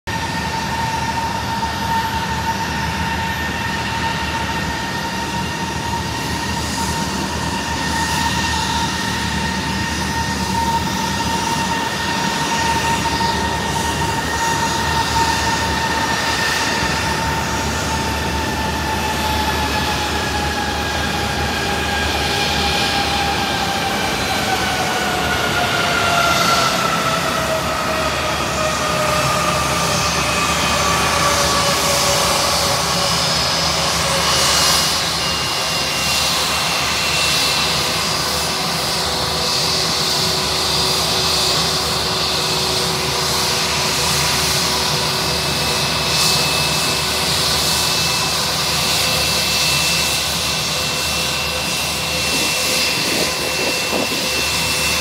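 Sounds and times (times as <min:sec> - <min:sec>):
jet engines whining: 0:00.1 - 0:55.0.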